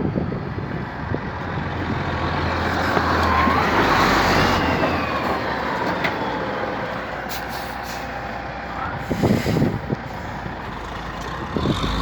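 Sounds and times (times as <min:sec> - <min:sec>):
dump truck driving past: 0:00.2 - 0:12.0.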